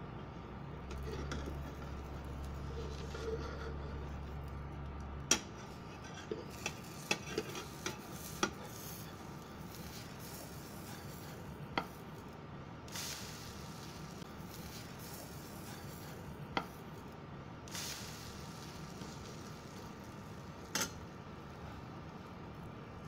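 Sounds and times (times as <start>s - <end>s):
faint frying sizzle: 0.0s - 23.0s.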